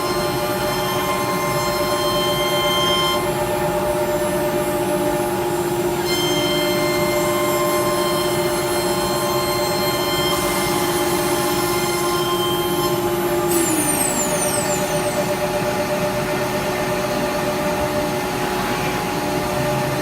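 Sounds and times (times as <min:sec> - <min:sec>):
cnc router spindle whine: 0:00.0 - 0:20.0.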